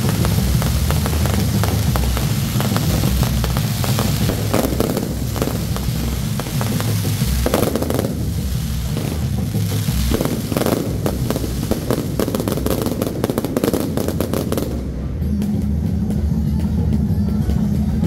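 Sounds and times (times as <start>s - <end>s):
fireworks crackling and popping: 0.0s - 18.0s
low rumble: 0.0s - 18.0s.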